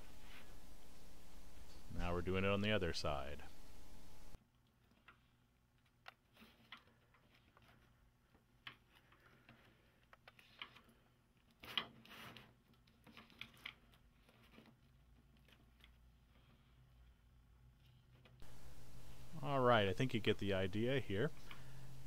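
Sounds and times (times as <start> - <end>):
twine drawn through fabric: 0.0 - 22.0.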